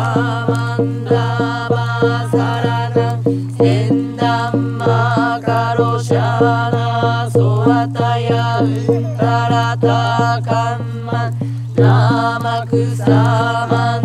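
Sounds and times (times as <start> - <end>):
chanted singing: 0.0 - 14.0
regular drumbeat: 0.0 - 14.0.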